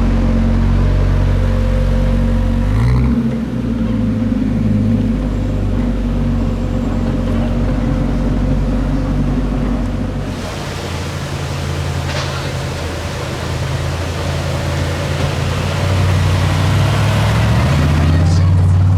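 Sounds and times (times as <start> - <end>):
car engine running: 3.4 - 18.9.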